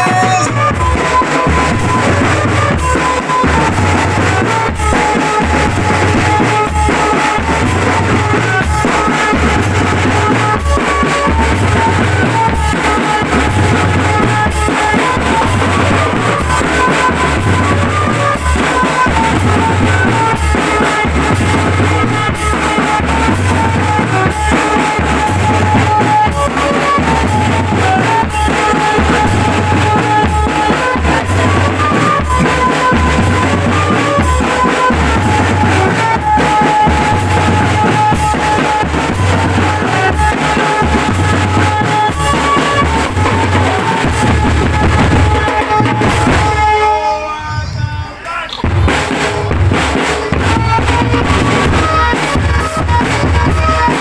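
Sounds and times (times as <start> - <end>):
bass drums and snare drums: 0.0 - 54.0.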